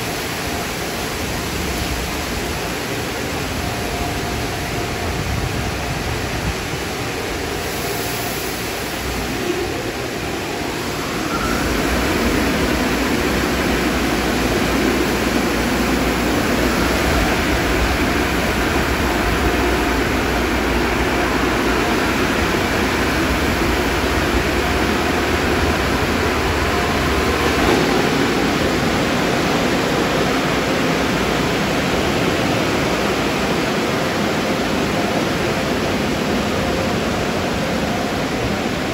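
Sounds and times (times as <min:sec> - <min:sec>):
car wash machinery running: 0:00.0 - 0:38.9.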